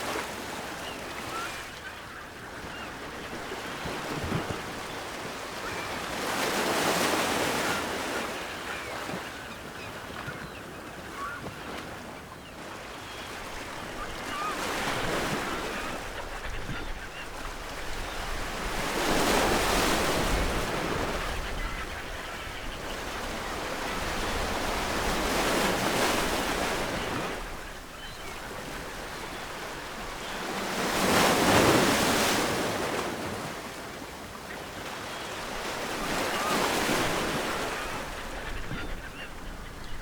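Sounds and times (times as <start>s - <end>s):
ocean waves breaking on shore: 0.0s - 40.0s.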